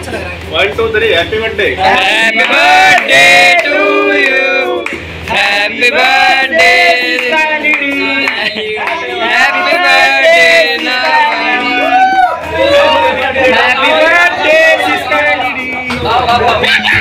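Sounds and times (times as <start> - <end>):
group singing loudly: 1.8 - 17.0.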